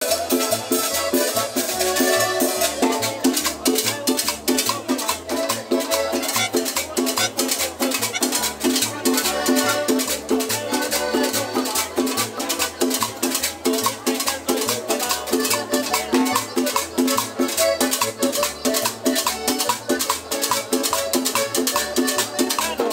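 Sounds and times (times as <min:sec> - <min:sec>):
latin dance band playing: 0:00.0 - 0:22.9
rapid shaker percussion: 0:00.0 - 0:22.9.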